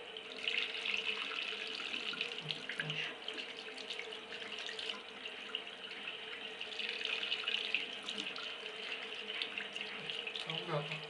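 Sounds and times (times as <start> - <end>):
tap water splashing into sink: 0.0 - 11.0.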